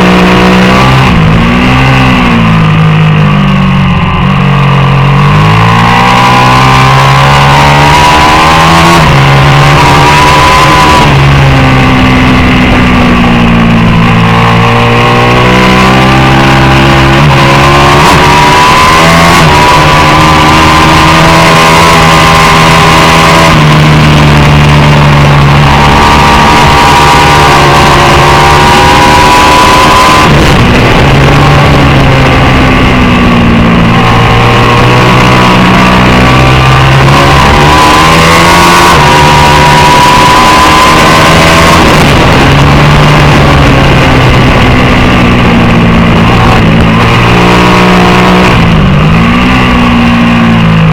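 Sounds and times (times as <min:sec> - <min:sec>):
racing motorcycle engine: 0:00.0 - 0:50.9.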